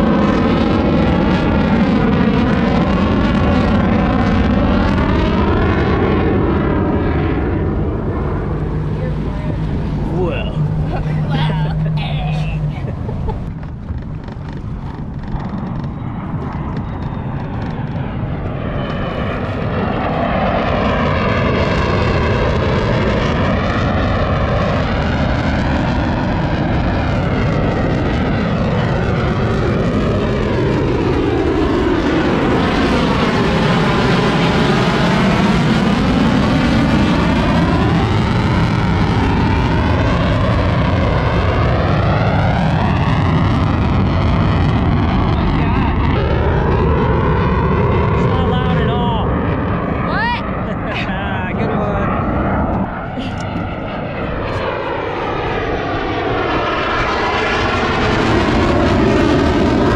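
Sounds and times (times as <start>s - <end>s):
fighter jet roaring overhead: 0.0s - 59.9s.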